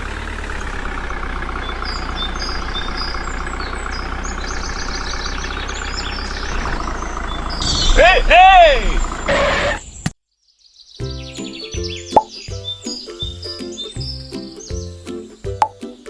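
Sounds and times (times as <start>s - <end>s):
tractor engine running: 0.0s - 9.7s, 11.0s - 16.0s.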